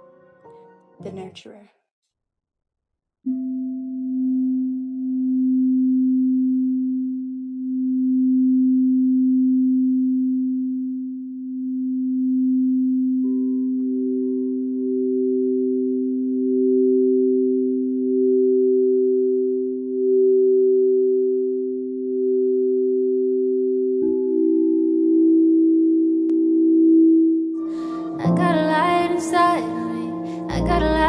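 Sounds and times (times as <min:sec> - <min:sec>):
singing bowl tone: 0:03.3 - 0:31.0.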